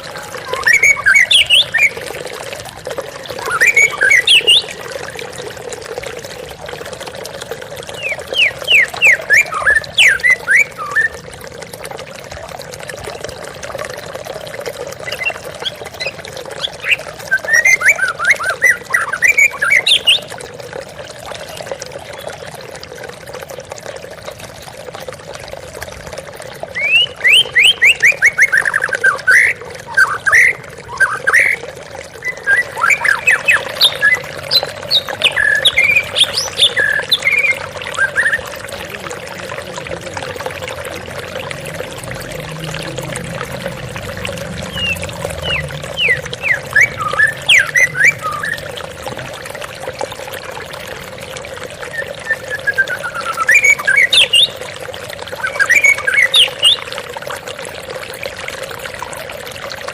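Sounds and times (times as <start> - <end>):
waterfall trickling: 0.0 - 59.9.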